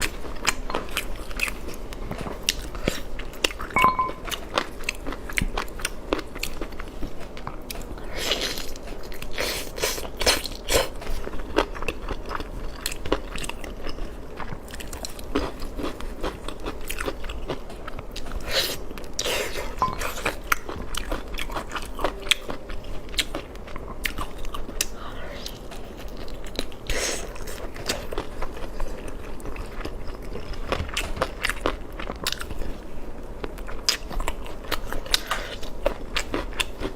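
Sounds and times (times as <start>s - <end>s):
person chewing crunchy food: 0.0s - 36.9s.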